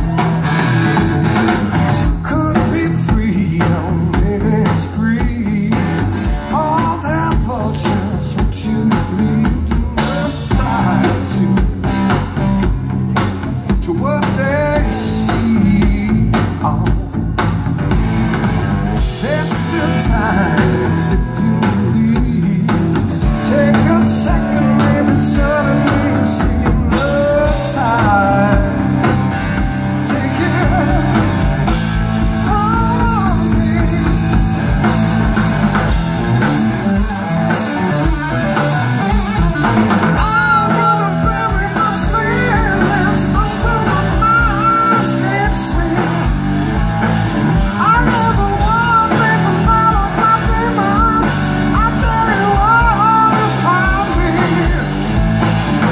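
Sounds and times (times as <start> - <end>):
bass guitar: 0.0 - 55.9
drum kit: 0.0 - 55.9
electric guitar: 0.0 - 55.9.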